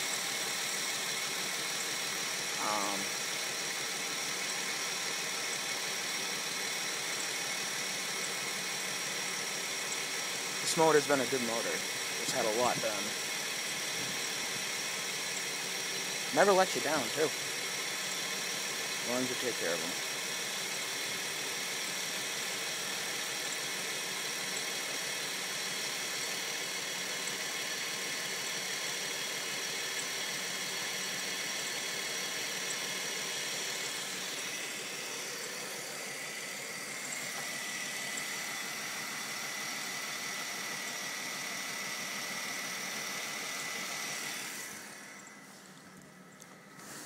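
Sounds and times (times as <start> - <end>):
constant high whine: 0.0 - 47.0.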